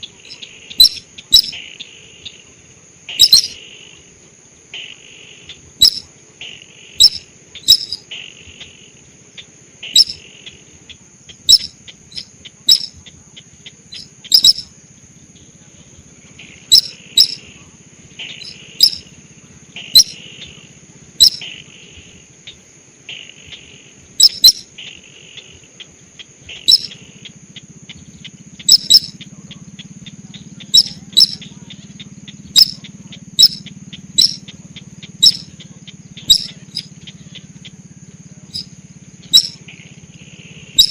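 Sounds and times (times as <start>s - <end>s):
sharp loud bird calls: 0.0s - 2.4s, 3.0s - 3.8s, 4.8s - 40.9s
steady high whine: 0.0s - 40.9s.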